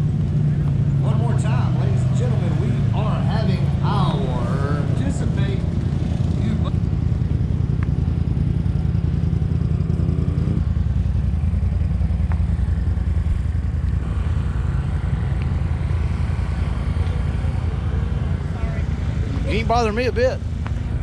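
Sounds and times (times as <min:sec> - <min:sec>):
vehicle engine running at low revs: 0:00.0 - 0:21.0.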